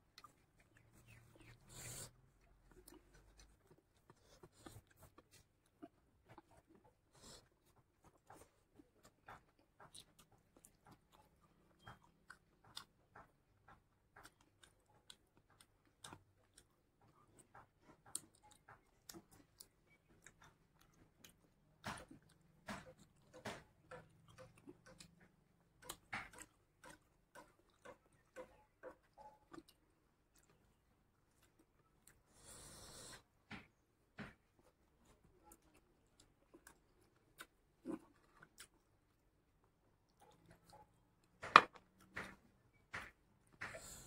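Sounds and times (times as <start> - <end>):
person chewing and smacking: 0.0 - 44.0.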